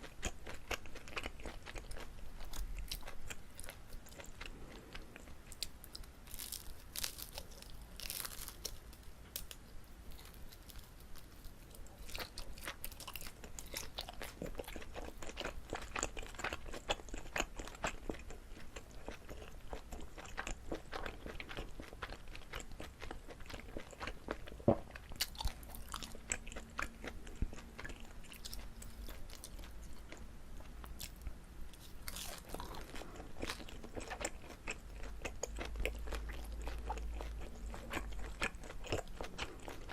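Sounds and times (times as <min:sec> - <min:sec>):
chewing and biting rice cake: 0:00.0 - 0:31.2, 0:31.8 - 0:39.9.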